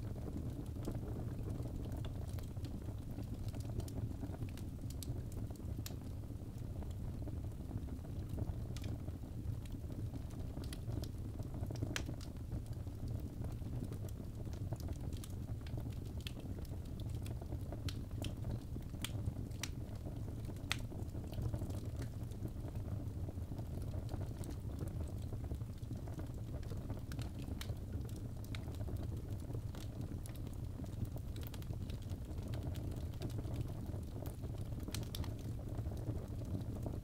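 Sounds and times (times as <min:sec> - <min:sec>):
fire crackles and pops: 0:00.0 - 0:37.0.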